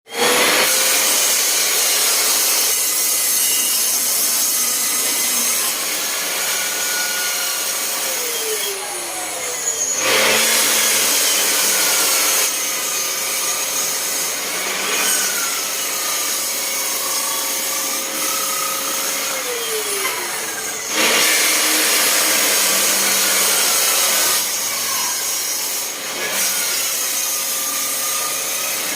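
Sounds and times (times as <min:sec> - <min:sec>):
saw blade cutting plywood: 0:00.1 - 0:28.9
table saw motor whine: 0:00.1 - 0:28.9.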